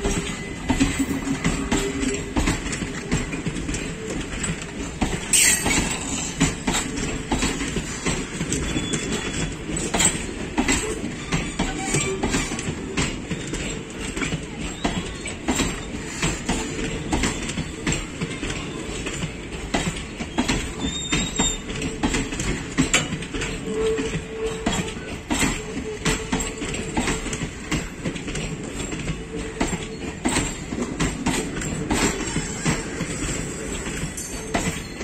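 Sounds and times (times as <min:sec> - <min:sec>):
train rumble: 0:00.0 - 0:35.0
train wheels clacking over rail joints: 0:00.0 - 0:35.0.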